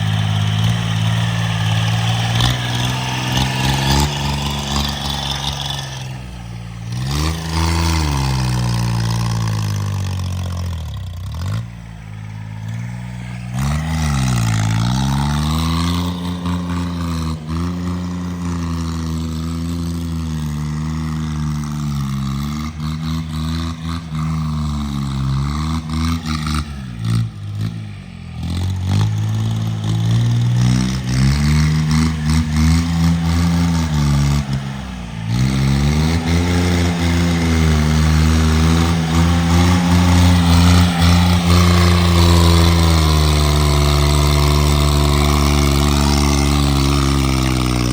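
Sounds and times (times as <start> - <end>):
tractor engine revving: 0.0 - 47.9.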